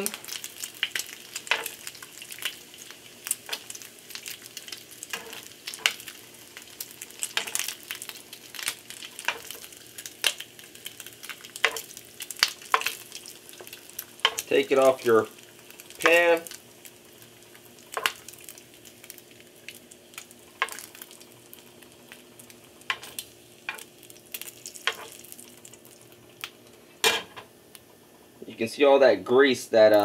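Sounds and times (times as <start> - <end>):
bacon sizzling: 0.0 - 30.0
fat crackling and popping: 0.0 - 30.0.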